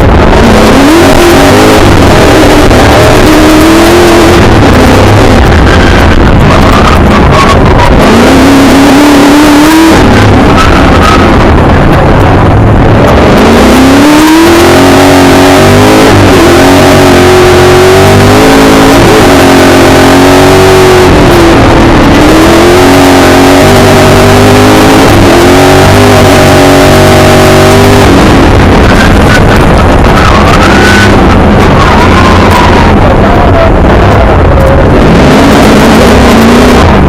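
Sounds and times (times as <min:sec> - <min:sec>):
racing car engine revving: 0:00.0 - 0:37.0
road and tyre noise: 0:00.0 - 0:37.0.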